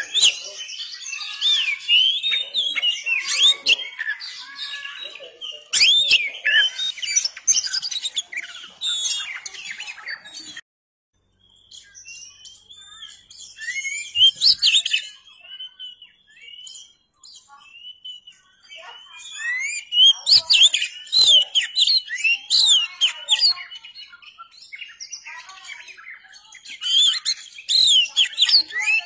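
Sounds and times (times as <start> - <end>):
bird singing whistles and chirps: 0.0 - 10.6, 11.3 - 29.0.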